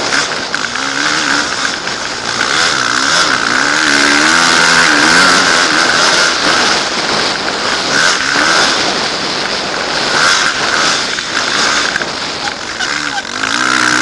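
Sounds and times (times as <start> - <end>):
dirt bike engine revving: 0.0 - 14.0
wind noise: 0.0 - 14.0.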